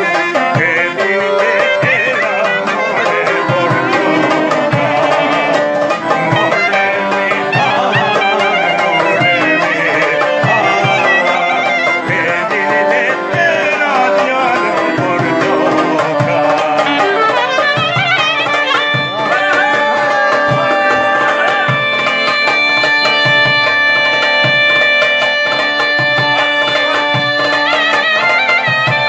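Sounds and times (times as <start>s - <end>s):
clarinet playing folk melody: 0.0s - 29.0s
hand drum beat: 0.0s - 29.0s.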